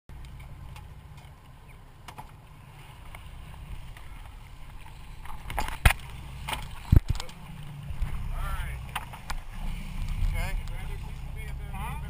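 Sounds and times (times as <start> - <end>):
low boat rumble: 0.1 - 12.0.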